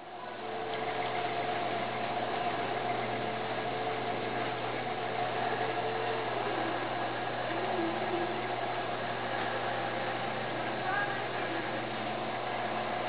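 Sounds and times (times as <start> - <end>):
potter's wheel motor humming: 0.0 - 13.0.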